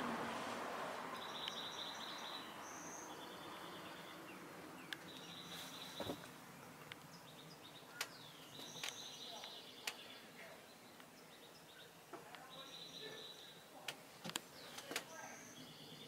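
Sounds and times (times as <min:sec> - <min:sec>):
faint bird chirps: 0:01.1 - 0:13.8, 0:14.5 - 0:16.0.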